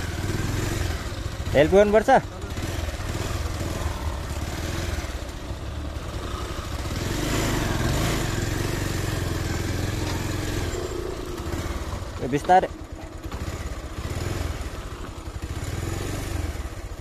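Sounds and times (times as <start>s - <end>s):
scooter engine revving: 0.0s - 17.0s
small motorbike engines running: 0.0s - 17.0s.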